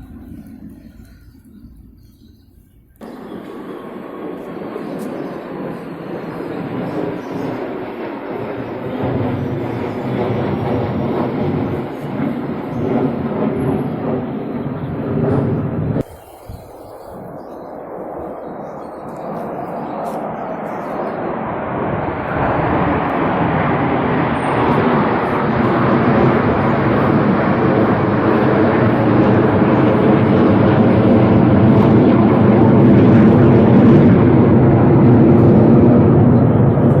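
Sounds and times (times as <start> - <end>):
military aircraft flying overhead: 0.0 - 37.0.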